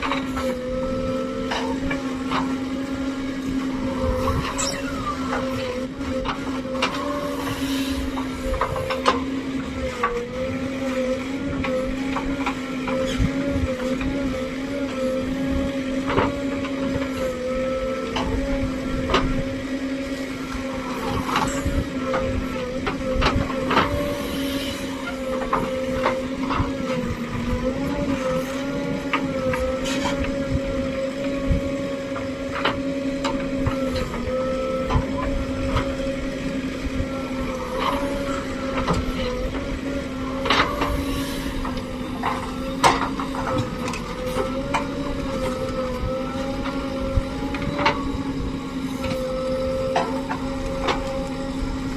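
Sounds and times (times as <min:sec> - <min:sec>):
diesel engine running under load: 0:00.0 - 0:51.9.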